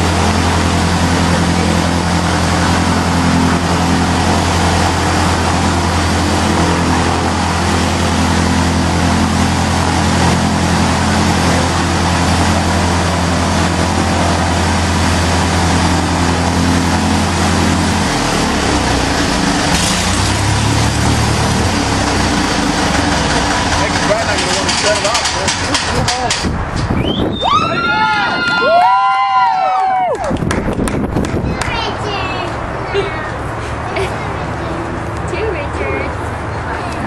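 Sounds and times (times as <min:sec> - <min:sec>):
light aircraft piston engine running: 0:00.0 - 0:27.2, 0:30.3 - 0:37.0.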